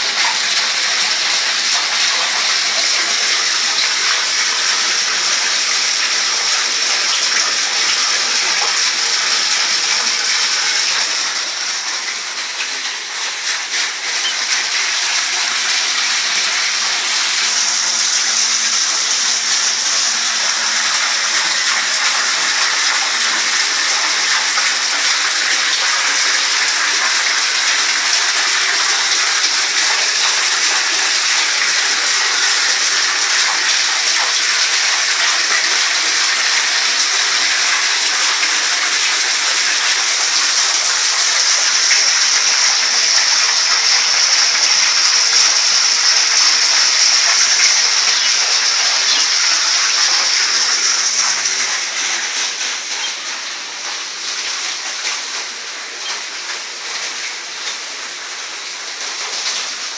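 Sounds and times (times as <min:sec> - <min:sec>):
waterfall splashing into pond: 0:00.0 - 0:59.9.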